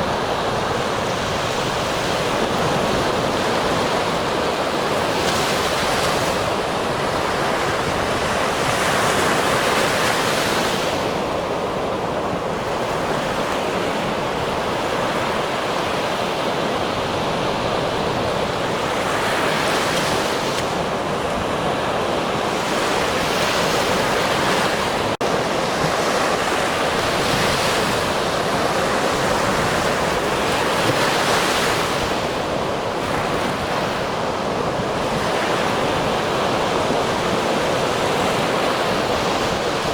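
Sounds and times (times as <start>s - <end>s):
ocean surf: 0.0s - 39.9s.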